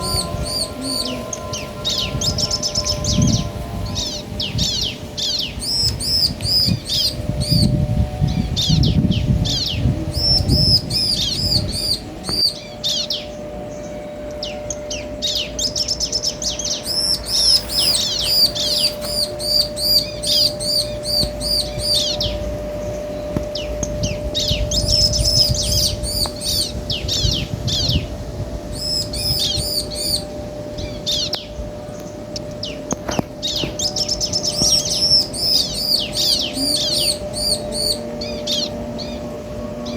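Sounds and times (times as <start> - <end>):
birds chirping high notes: 0.0 - 13.9, 14.8 - 39.9
faint steady hum: 0.0 - 39.9.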